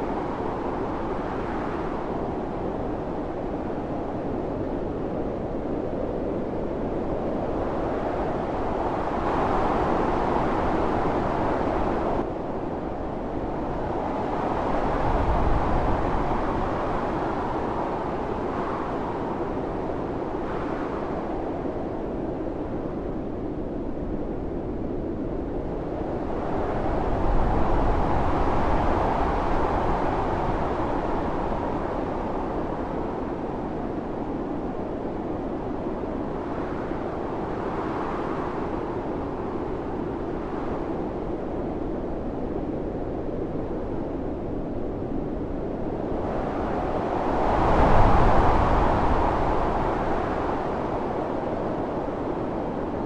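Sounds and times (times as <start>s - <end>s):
howling wind: 0.0s - 53.0s.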